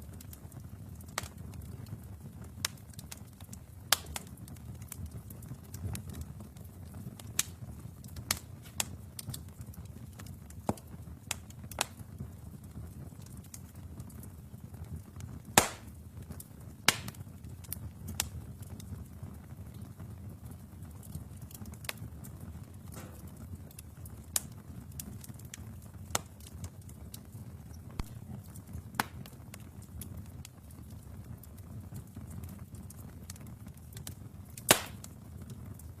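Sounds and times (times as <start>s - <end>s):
logs crackling and popping: 0.0s - 36.0s
low rumble of flames: 0.0s - 36.0s.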